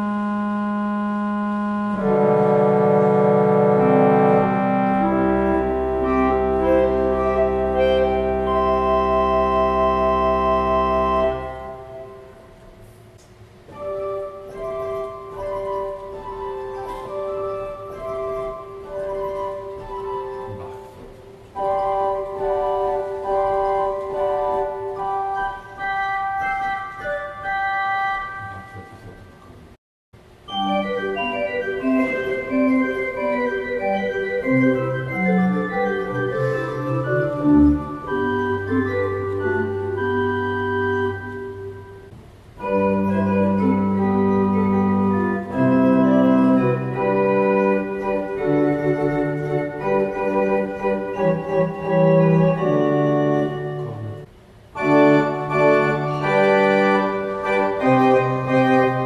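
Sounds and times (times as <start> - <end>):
pipe organ flute stops: 0.0 - 13.0, 13.7 - 29.6, 30.5 - 59.0.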